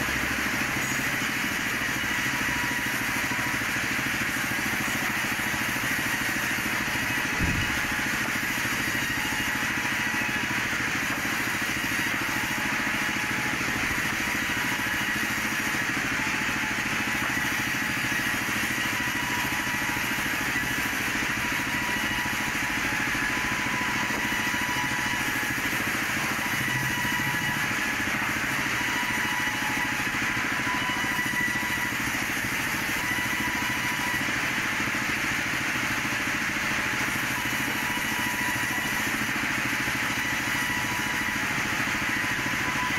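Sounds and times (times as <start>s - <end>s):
band saw running with high whine: 0.0s - 42.9s.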